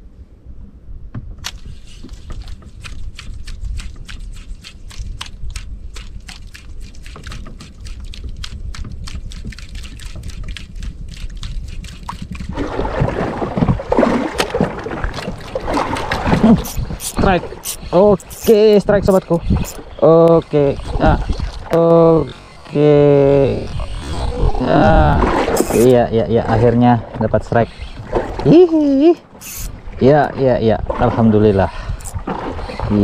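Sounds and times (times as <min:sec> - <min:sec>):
wind on microphone: 0:00.0 - 0:33.0
water splashing against boat: 0:01.4 - 0:33.0.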